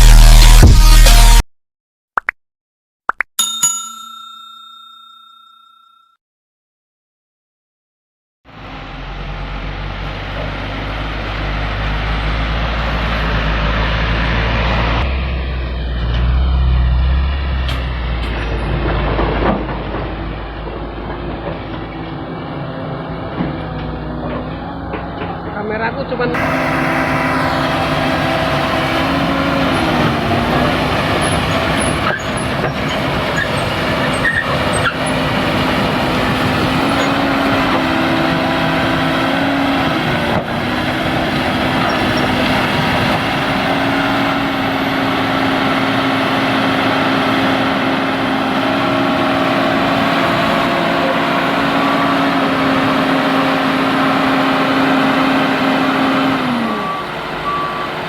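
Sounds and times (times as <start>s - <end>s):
excavator diesel engine running: 8.5s - 58.0s.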